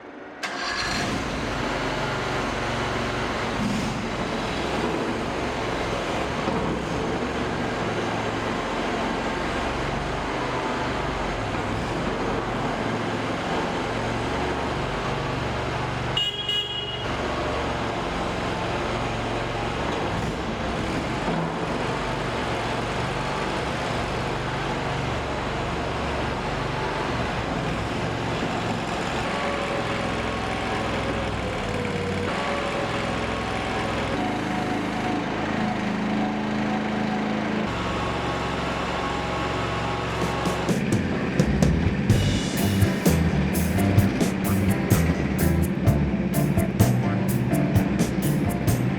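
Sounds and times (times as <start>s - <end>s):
engine running steadily: 0.4s - 48.9s.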